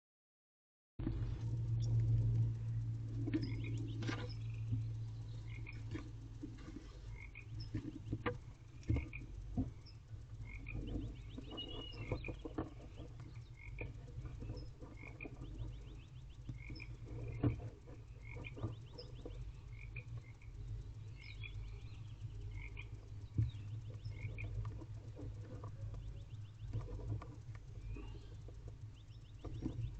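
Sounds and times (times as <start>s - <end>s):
steady low hum: 1.0s - 29.9s
frogs croaking: 1.2s - 29.9s.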